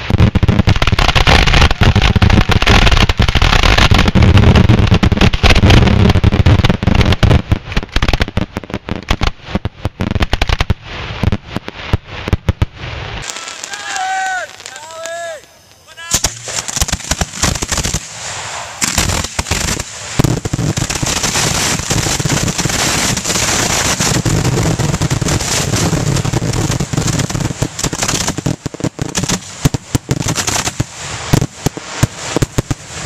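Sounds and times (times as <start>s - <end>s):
fireworks crackle: 0.0s - 33.0s
fireworks launches and bursts: 0.0s - 33.0s.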